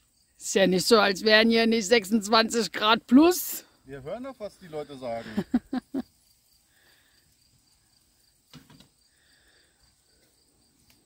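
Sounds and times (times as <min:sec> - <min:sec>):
faint insect-like chirping: 0:00.0 - 0:11.0
faint outdoor ambience: 0:00.0 - 0:11.0.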